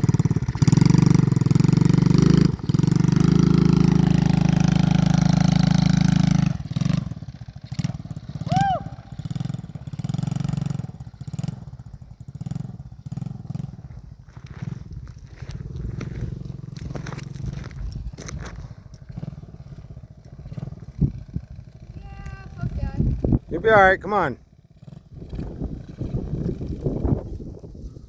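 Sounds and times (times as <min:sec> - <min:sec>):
pit bike engine running: 0:00.0 - 0:28.0.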